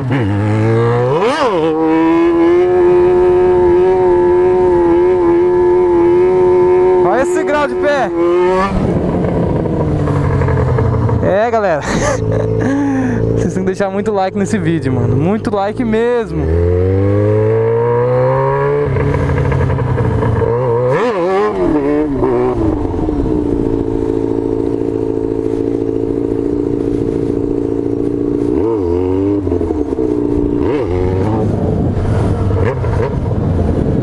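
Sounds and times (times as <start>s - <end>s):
motorcycle engine revving hard: 0.0s - 13.6s, 14.8s - 34.0s.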